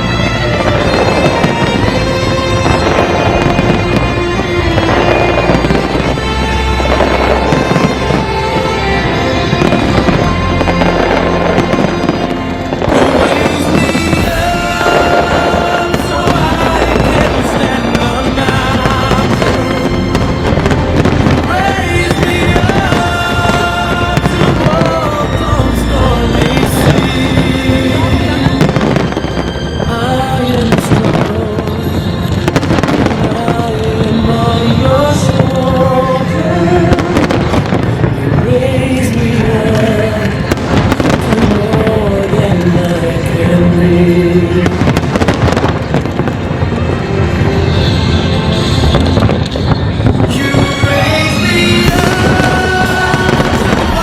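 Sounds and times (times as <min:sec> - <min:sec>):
fireworks bursting and crackling: 0:00.0 - 0:54.0
loud background music: 0:00.0 - 0:54.0.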